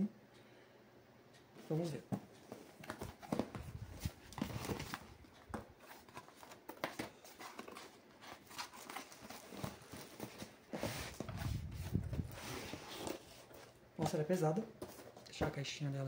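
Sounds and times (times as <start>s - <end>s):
cardboard and plastic packaging rustling: 1.7s - 15.6s.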